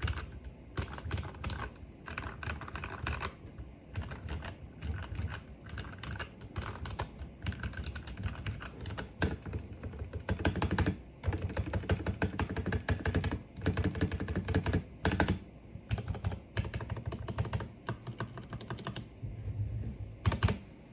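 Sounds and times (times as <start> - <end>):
fast mechanical keyboard typing: 0.0 - 19.2, 20.2 - 20.6.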